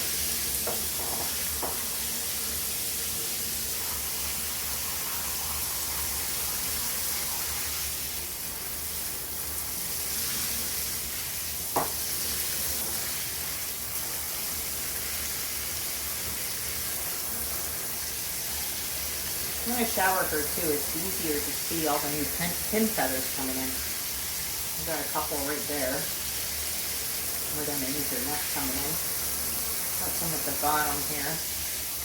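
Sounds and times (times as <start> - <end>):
shower spray running: 0.0 - 32.0.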